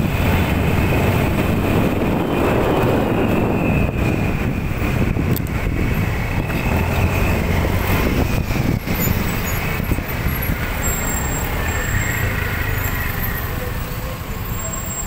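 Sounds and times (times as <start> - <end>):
city traffic: 0.0 - 15.0.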